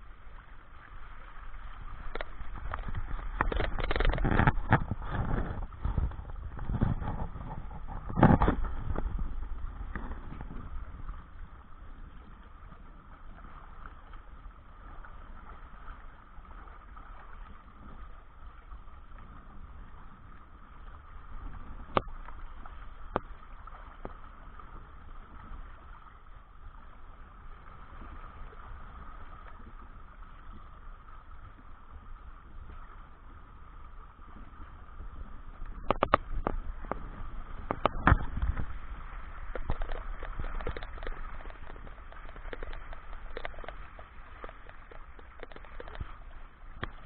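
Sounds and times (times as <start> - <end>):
outboard motor drone: 0.0 - 47.0
water rushing along hull: 0.0 - 47.0.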